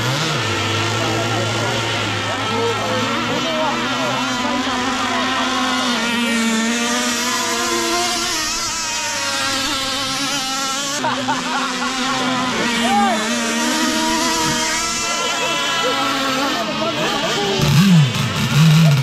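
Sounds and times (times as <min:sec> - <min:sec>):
buzzing boat engine: 0:00.0 - 0:19.0.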